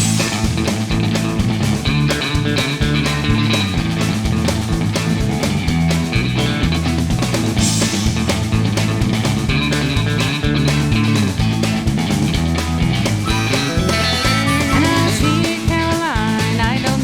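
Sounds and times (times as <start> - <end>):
bass guitar: 0.0 - 17.0
drum beat: 0.0 - 17.0
electric guitars: 0.0 - 17.0.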